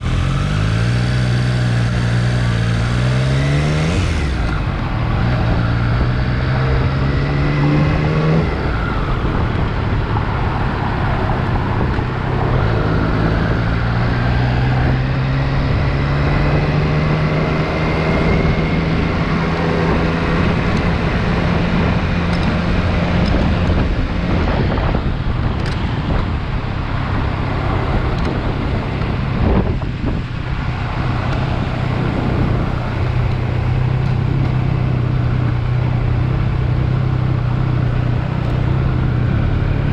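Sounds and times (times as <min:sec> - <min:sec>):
motorcycle engine running: 0:00.0 - 0:07.2, 0:07.9 - 0:39.9.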